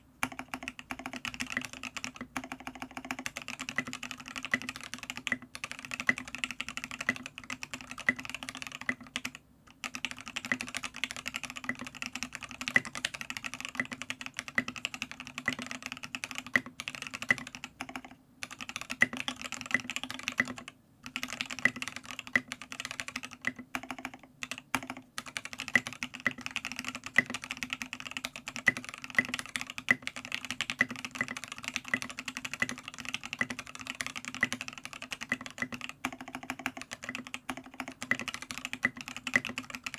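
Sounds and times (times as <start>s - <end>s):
fast keyboard typing: 0.2s - 39.9s.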